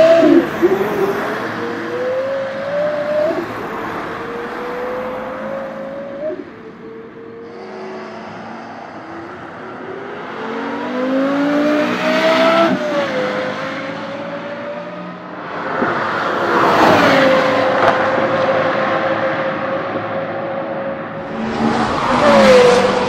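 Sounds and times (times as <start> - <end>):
race car engine passing: 0.0 - 23.0.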